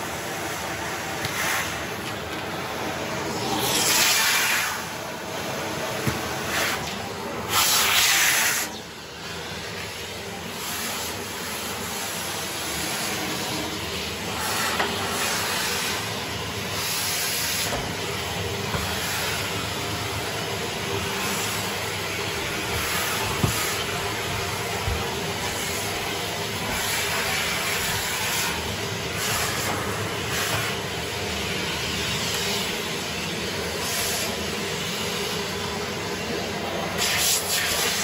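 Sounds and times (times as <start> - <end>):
vacuum cleaner suction hiss: 0.0 - 38.0.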